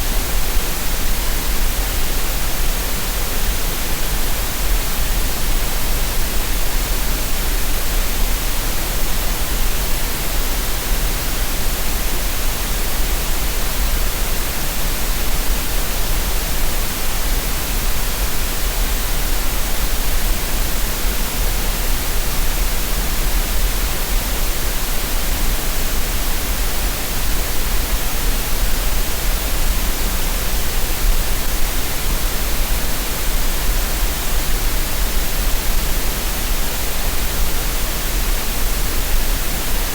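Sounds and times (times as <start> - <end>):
steady green noise hiss: 0.0 - 39.9.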